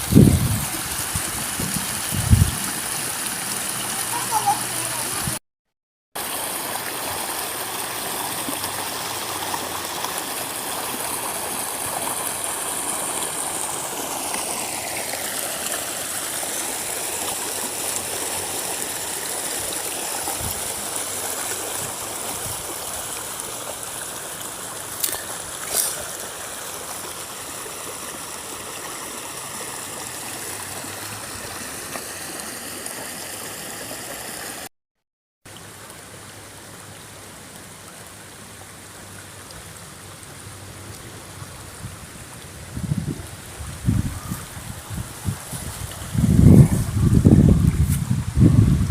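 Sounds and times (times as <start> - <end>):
stream running over rocks: 0.0 - 5.4, 6.2 - 34.7, 35.5 - 48.9.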